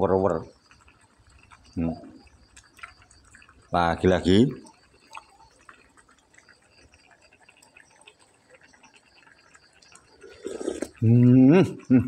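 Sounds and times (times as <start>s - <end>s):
soup simmering with small pops: 0.0s - 12.0s.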